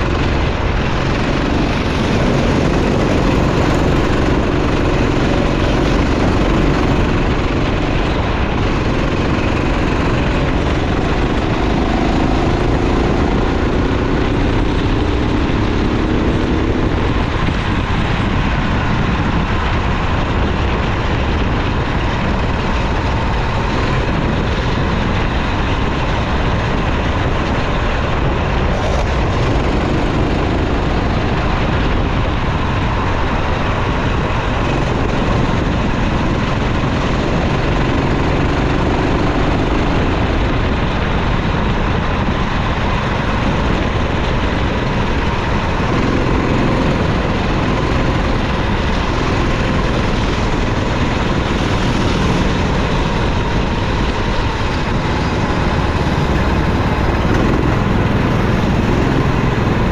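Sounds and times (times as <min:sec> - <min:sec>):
kart engine running: 0:00.0 - 0:59.9
wind noise rushing: 0:00.0 - 0:59.9.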